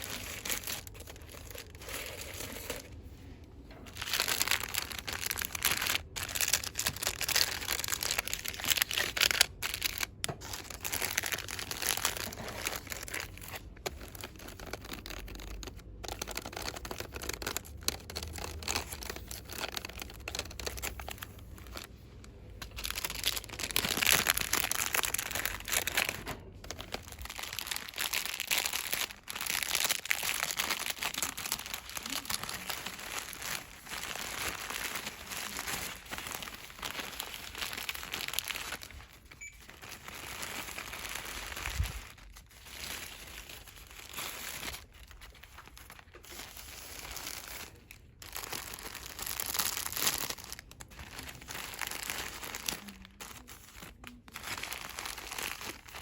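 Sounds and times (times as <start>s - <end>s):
packaging rustling and crinkling: 0.0s - 56.0s.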